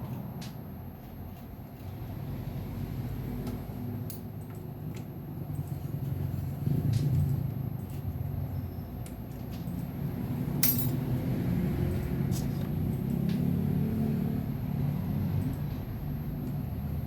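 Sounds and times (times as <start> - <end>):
steady low machine hum: 0.0 - 17.0.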